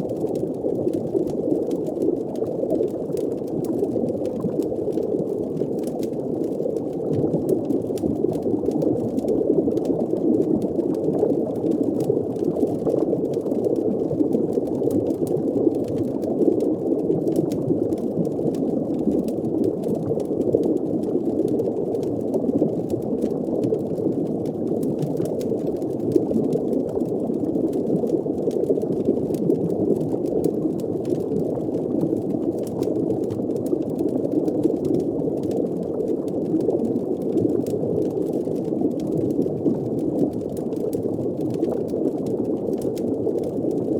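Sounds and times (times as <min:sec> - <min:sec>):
bubbling: 0:00.0 - 0:43.9
faint crackling clicks: 0:00.0 - 0:43.9.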